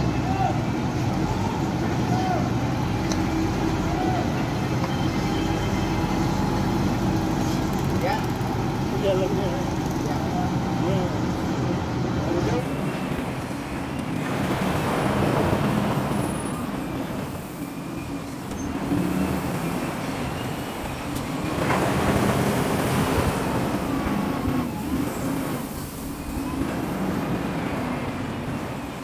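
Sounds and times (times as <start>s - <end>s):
diesel loader engines revving: 0.0s - 29.0s.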